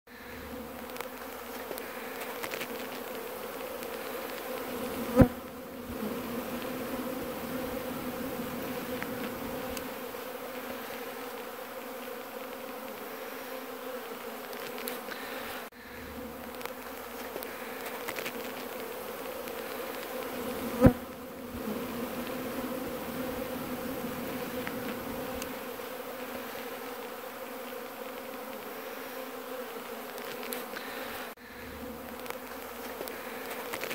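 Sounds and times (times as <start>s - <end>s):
honey bees buzzing: 0.1s - 33.9s.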